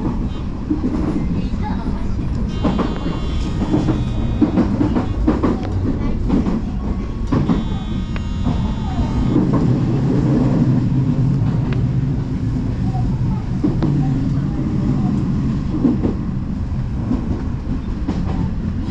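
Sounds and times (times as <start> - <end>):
train rumbling on rails: 0.0 - 18.9.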